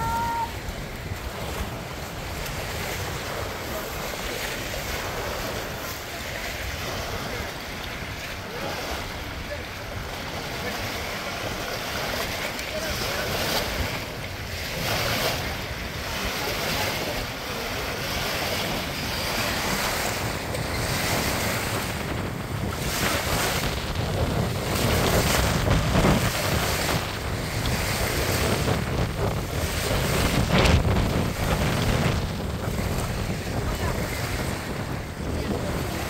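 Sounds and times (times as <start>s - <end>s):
waves lapping on shore: 0.0s - 36.0s
wind buffeting microphone: 0.0s - 36.0s.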